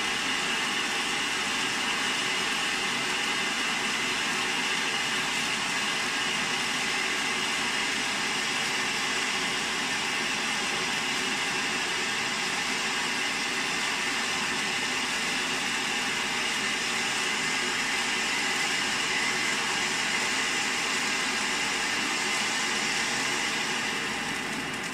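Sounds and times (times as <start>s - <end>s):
fountain firework hissing: 0.0s - 24.9s.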